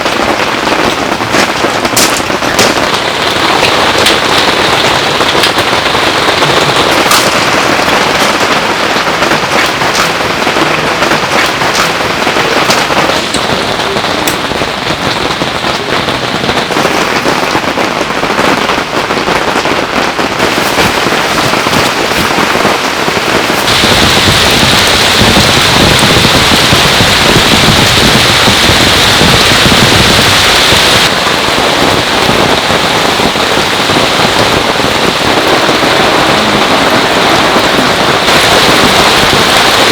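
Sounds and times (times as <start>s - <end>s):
heavy rain pouring: 0.0s - 39.9s
raindrops hitting surfaces: 0.0s - 39.9s.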